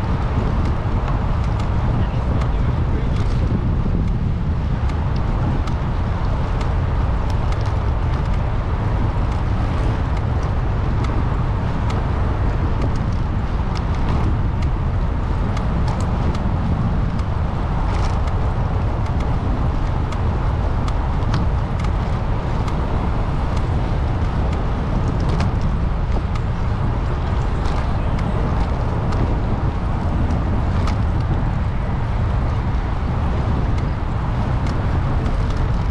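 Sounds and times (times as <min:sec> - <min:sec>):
car road and engine rumble: 0:00.0 - 0:35.9.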